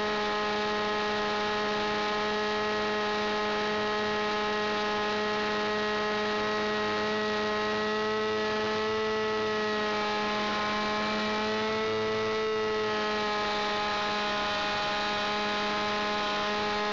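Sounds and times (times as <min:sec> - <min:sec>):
model airplane engine droning: 0:00.0 - 0:16.9.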